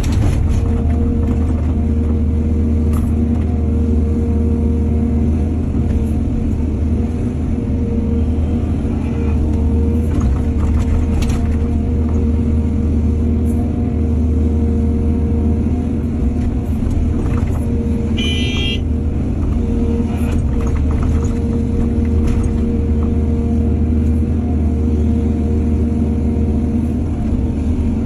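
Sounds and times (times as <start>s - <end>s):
heavy diesel engine rumbling: 0.0s - 28.0s.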